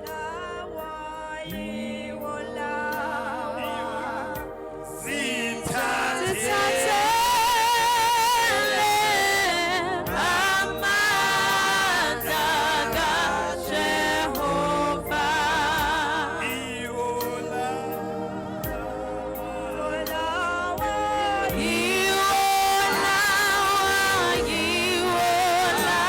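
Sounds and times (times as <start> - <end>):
gospel singing with vibrato: 0.0 - 26.0
sustained chords: 0.0 - 26.0.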